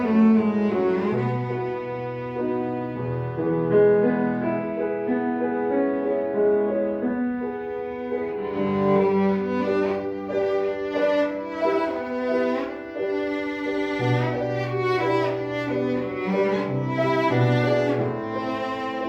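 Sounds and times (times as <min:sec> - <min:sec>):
cello melody: 0:00.0 - 0:19.0
piano accompaniment: 0:00.0 - 0:19.0.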